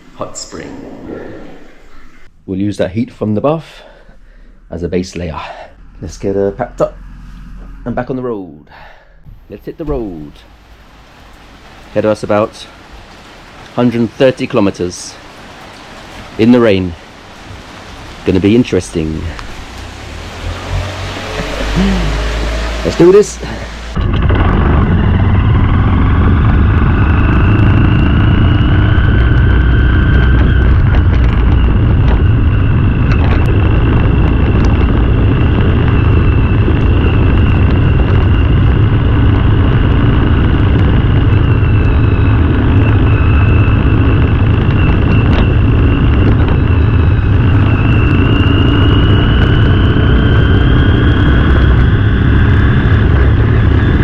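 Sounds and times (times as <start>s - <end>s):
high whine: 0.0s - 54.0s
wind and road noise: 3.2s - 54.0s.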